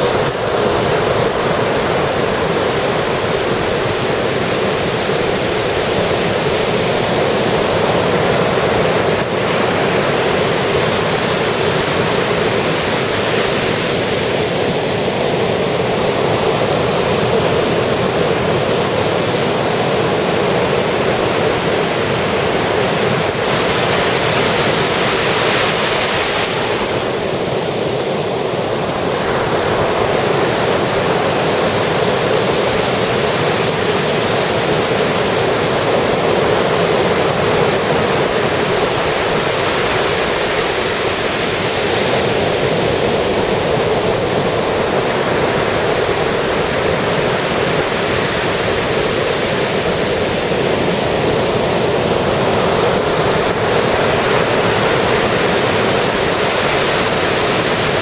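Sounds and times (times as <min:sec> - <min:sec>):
surf breaking on sandy beach: 0:00.0 - 0:58.0.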